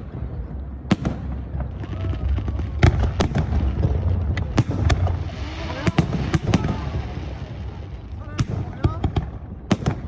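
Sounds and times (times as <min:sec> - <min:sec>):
fireworks bangs: 0:00.0 - 0:10.0
fireworks rumble and crackle: 0:00.0 - 0:10.0.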